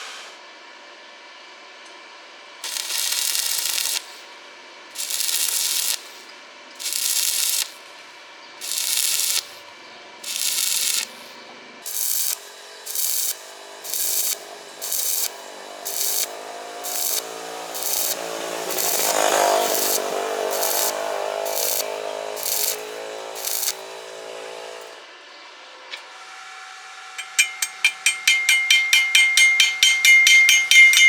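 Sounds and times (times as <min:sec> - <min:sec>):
steady low hum: 0:00.6 - 0:25.9.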